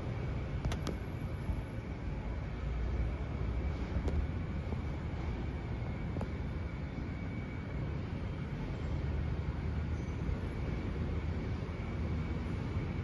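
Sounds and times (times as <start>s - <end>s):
faint high-pitched whine: 0.0s - 13.0s
low outdoor rumble: 0.0s - 13.0s.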